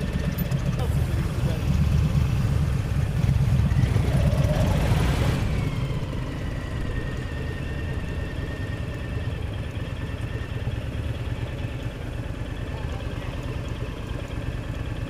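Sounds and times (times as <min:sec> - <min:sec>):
motorcycle engine pulling away: 0:00.0 - 0:15.0.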